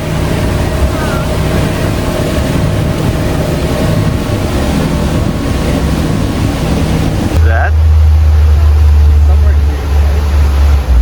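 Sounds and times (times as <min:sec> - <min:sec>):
boat motor running: 0:00.0 - 0:11.0
rushing water: 0:00.0 - 0:11.0
wind: 0:00.0 - 0:11.0.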